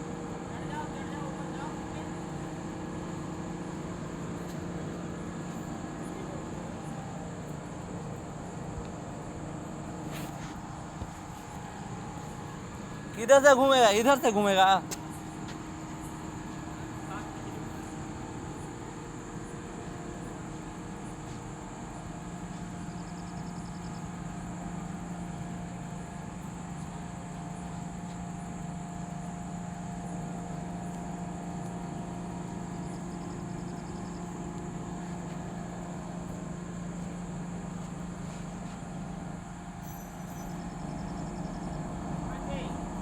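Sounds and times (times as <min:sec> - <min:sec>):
crane engine humming: 0:00.0 - 0:43.0.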